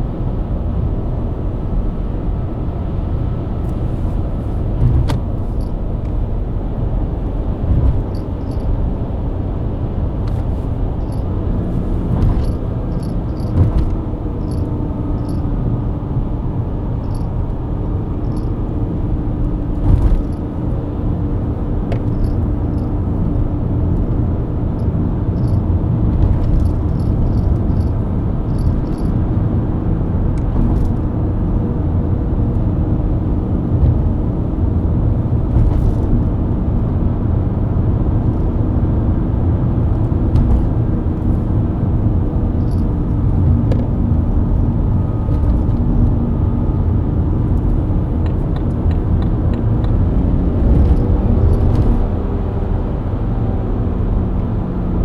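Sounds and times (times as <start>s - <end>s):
car engine cruising: 0.0s - 55.0s
tyre and road noise: 0.0s - 55.0s.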